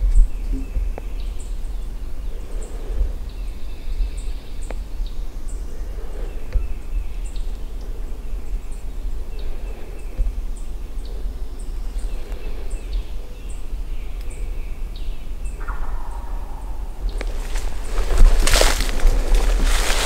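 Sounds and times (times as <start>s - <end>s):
songbirds calling: 0.0s - 20.0s
steady low rumble: 0.0s - 20.0s.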